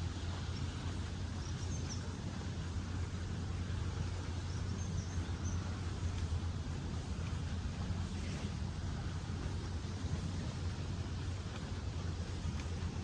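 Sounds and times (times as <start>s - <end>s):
low river rumble: 0.0s - 13.0s.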